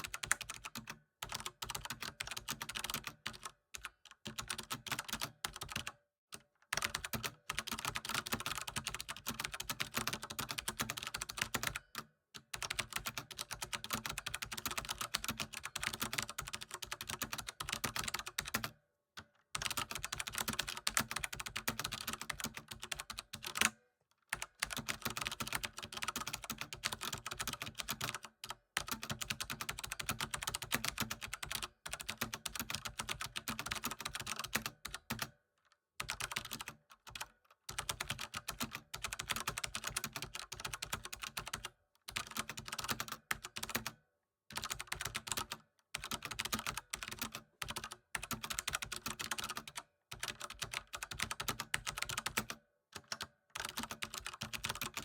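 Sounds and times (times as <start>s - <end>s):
fast typing on keyboard: 0.0s - 5.9s, 6.8s - 18.8s, 19.6s - 35.4s, 36.0s - 55.0s.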